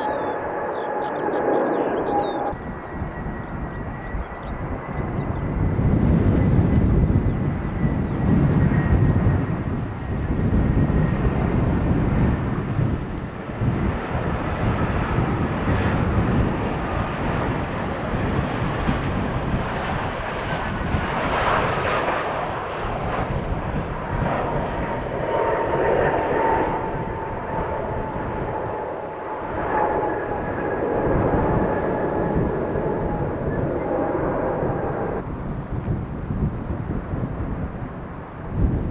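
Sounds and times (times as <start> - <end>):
jet engine whine dropping in pitch: 0.0 - 38.9
jet engines rumbling: 0.0 - 38.9.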